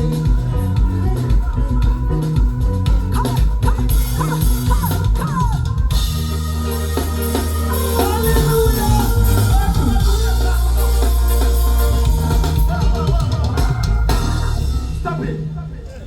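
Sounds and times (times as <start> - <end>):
drum kit: 0.0 - 15.9
bass: 0.0 - 16.0
person singing: 0.0 - 16.0.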